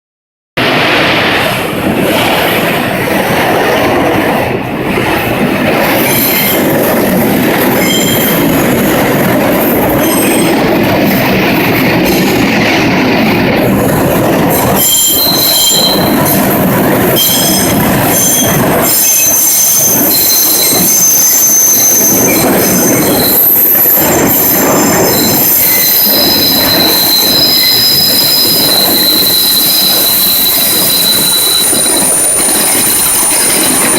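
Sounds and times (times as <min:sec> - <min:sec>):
train rumble: 0:00.6 - 0:33.9
train wheels squealing on rails: 0:04.9 - 0:33.9.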